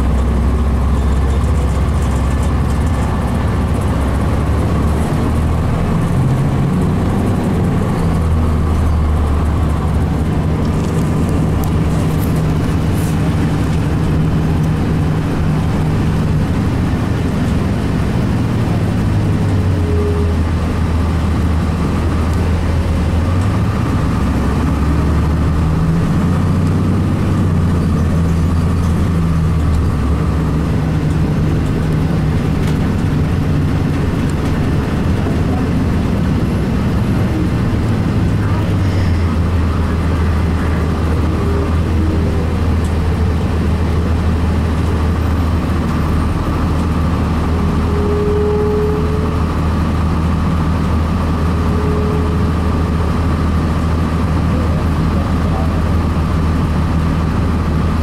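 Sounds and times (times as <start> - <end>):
bus diesel engine revving: 0.0 - 58.0.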